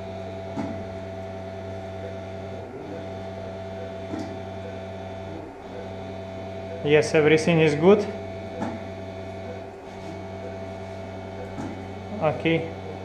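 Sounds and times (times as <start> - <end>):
mechanical hum of equipment: 0.0 - 13.0.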